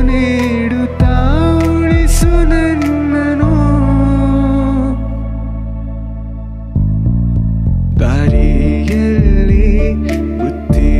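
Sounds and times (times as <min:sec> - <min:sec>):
background music with bass and percussion: 0:00.0 - 0:10.9.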